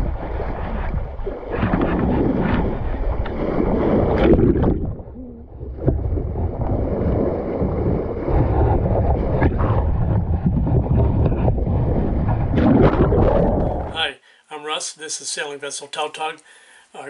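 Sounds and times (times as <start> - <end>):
wind buffeting microphone: 0.0 - 14.0
water rushing against hull: 0.0 - 14.1.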